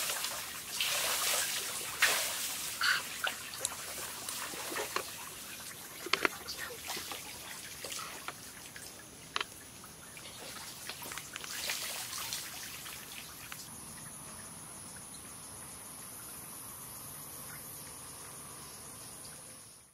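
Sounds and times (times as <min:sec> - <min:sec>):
night insects droning: 0:00.0 - 0:19.9.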